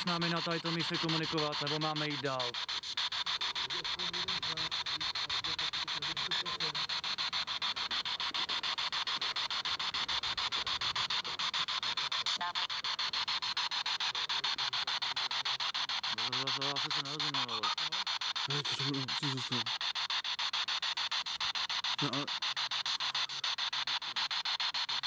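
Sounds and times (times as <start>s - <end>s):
radio static chopping: 0.0s - 25.0s.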